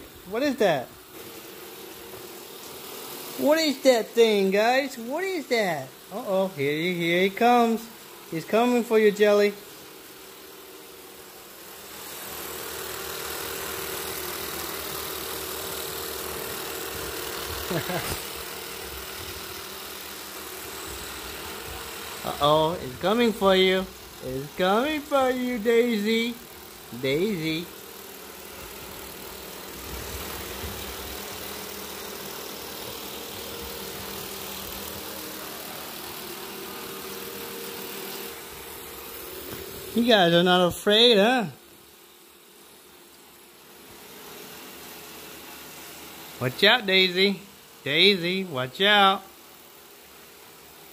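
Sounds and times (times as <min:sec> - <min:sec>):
robot vacuum motor hum: 0:00.0 - 0:50.9.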